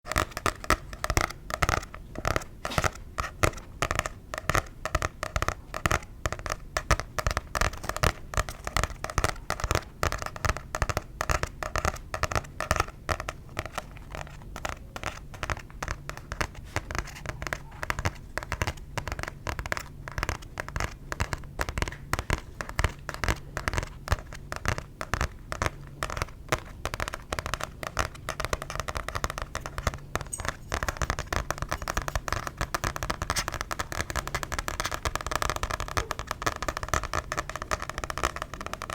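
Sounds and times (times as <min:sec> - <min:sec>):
tapping on a book: 0:00.1 - 0:38.9.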